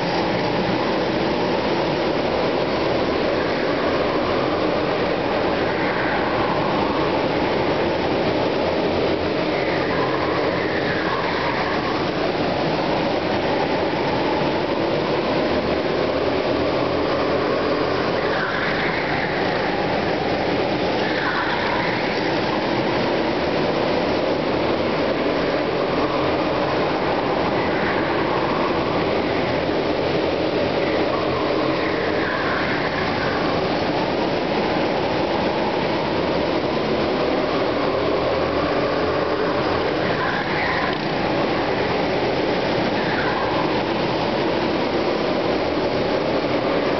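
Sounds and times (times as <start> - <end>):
go-kart engines racing: 0.0 - 46.9.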